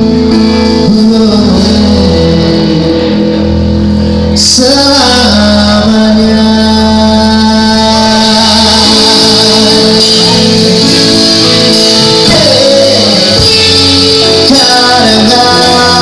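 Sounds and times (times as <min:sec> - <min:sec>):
live band playing pop song: 0:00.0 - 0:16.0
man singing into a microphone: 0:00.0 - 0:16.0.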